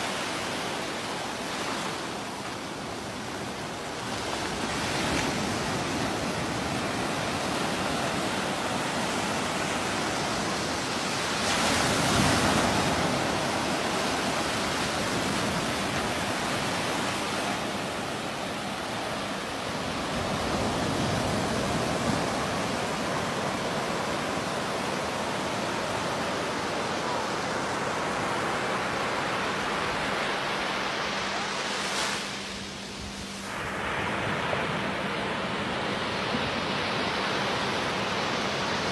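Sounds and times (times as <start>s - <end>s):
small waves washing and breaking: 0.0s - 38.9s.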